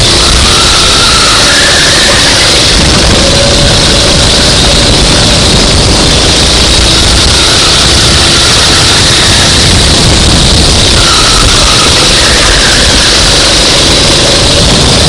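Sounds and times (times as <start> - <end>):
go-kart engine roaring: 0.0 - 15.0.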